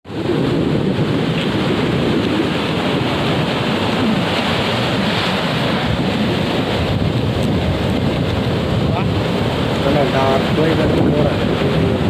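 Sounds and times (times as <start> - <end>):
heavy surf breaking: 0.1 - 12.0
wind buffeting microphone: 0.1 - 12.0.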